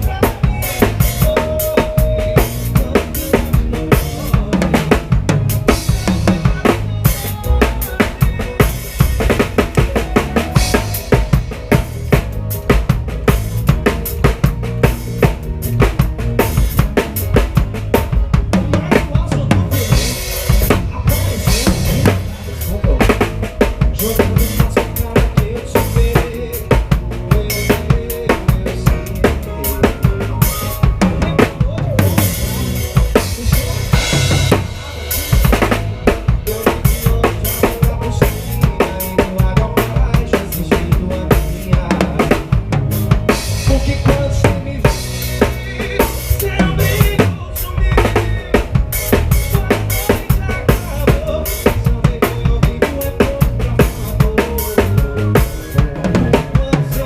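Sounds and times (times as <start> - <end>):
drum kit beat: 0.0 - 57.0
live band music: 0.0 - 57.0.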